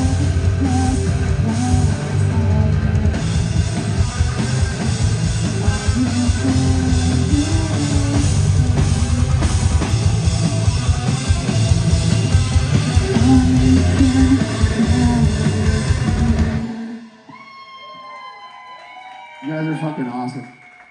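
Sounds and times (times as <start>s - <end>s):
distorted electric guitar: 0.0s - 17.3s
drum kit: 0.0s - 17.6s.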